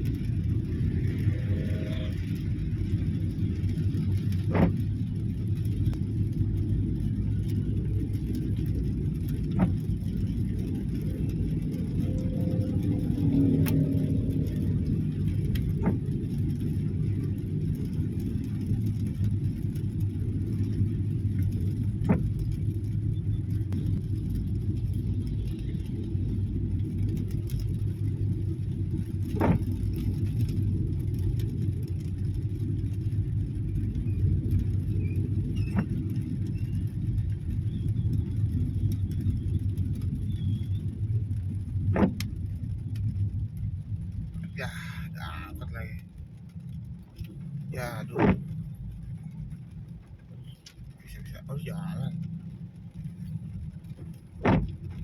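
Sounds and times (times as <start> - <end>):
car driving rumble from inside: 0.0 - 55.0.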